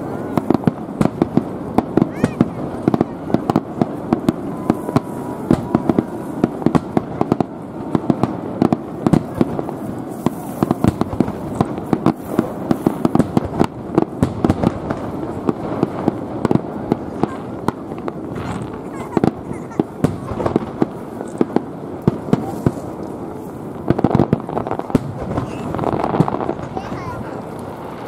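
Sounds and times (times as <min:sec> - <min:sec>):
continuous rumble: 0:00.0 - 0:28.0
fireworks bangs and crackles: 0:00.0 - 0:28.0.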